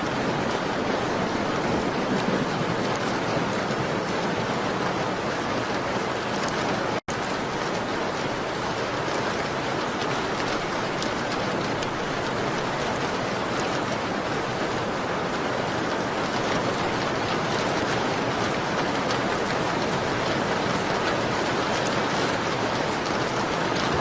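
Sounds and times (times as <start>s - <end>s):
rain on window glass: 0.0s - 24.0s.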